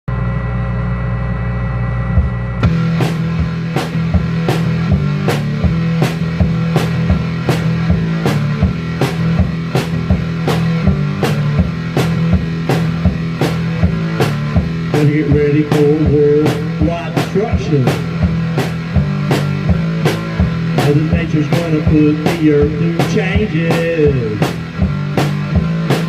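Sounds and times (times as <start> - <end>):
instrumental rock music: 1.4 - 26.0
drum kit beat: 2.1 - 26.0.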